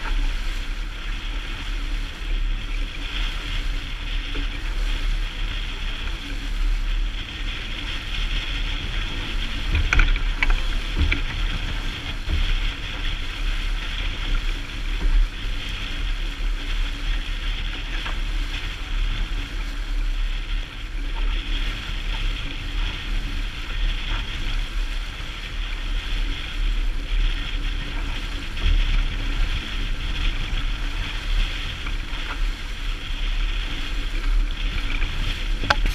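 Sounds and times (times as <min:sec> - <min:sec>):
wind and water noise: 0:00.0 - 0:35.9
wind buffeting microphone: 0:00.0 - 0:35.9.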